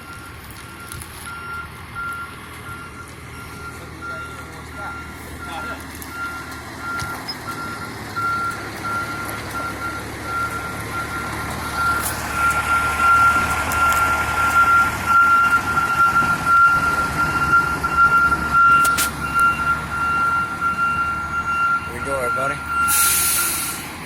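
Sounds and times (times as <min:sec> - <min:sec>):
diesel engine running: 0:00.0 - 0:24.0
reversing beeper: 0:00.0 - 0:24.0.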